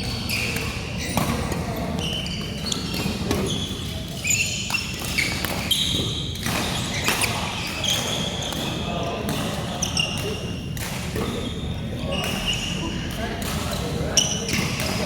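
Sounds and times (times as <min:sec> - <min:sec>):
rackets striking shuttlecock: 0:00.0 - 0:11.4, 0:13.1 - 0:15.0
shoes squeaking on court floor: 0:00.0 - 0:15.0.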